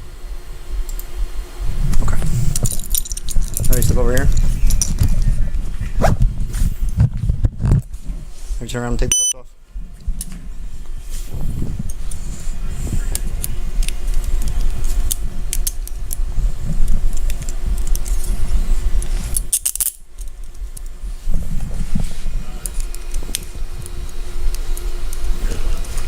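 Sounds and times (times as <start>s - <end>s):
clothing rubbing on microphone: 1.7s - 8.9s, 9.8s - 19.4s, 20.4s - 26.0s.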